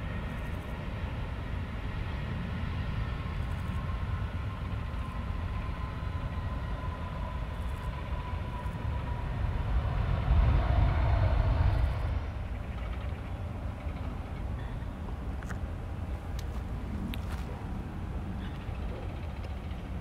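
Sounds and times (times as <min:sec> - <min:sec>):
airliner rumble on runway: 0:00.0 - 0:20.0
jet engine whine: 0:00.0 - 0:20.0.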